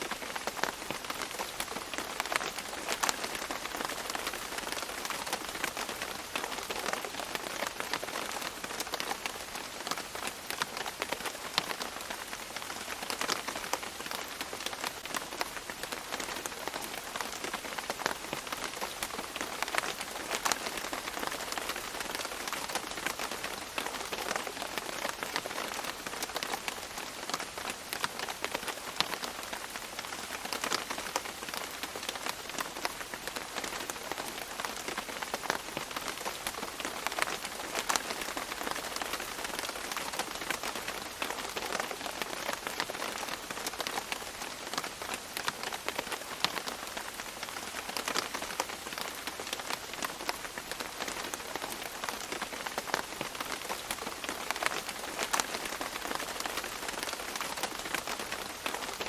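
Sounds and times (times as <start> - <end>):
rain dripping on leaves: 0.0 - 59.0.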